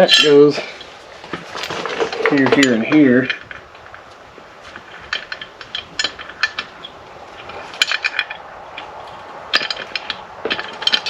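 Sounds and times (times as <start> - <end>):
metal tools clinking: 0.0 - 11.0.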